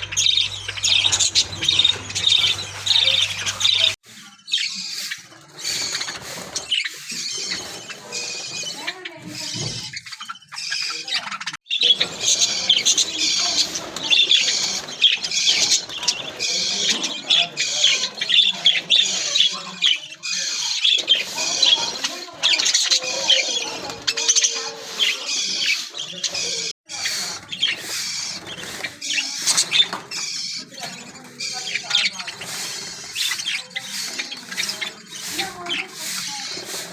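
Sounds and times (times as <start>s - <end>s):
budgies chattering and chirping: 0.0s - 36.9s.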